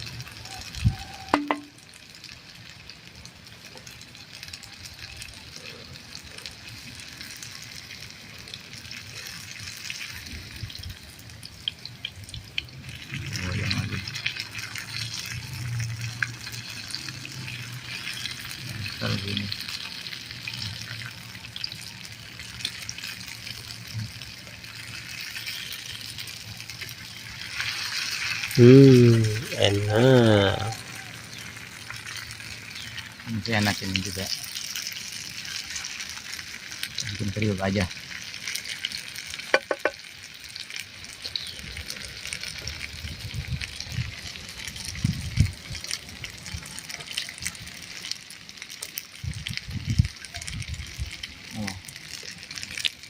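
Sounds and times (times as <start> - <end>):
oil popping and crackling: 0.0 - 53.0
oil sizzling in a frying pan: 0.0 - 53.0.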